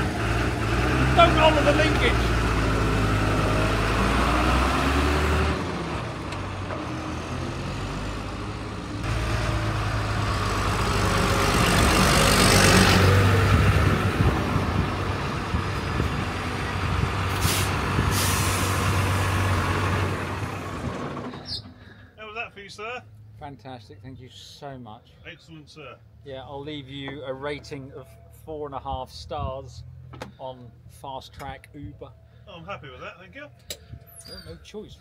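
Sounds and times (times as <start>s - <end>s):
tractor diesel engine driving: 0.0s - 35.0s.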